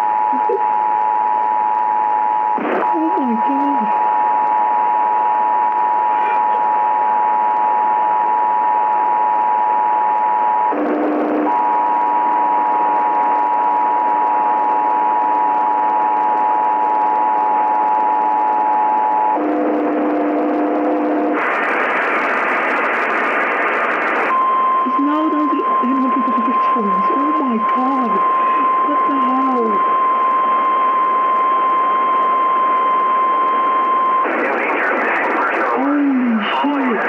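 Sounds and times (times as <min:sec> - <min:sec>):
radio static: 0:00.0 - 0:00.8, 0:02.4 - 0:09.5, 0:10.1 - 0:37.0
lower-pitched steady tones: 0:00.0 - 0:37.0.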